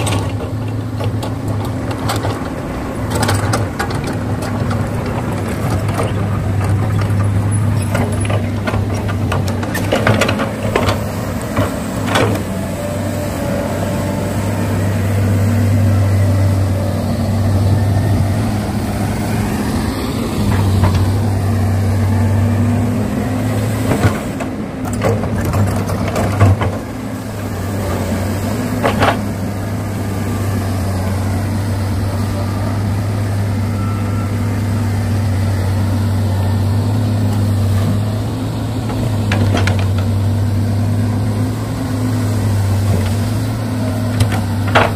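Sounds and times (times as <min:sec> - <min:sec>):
excavator engine droning: 0:00.0 - 0:44.9.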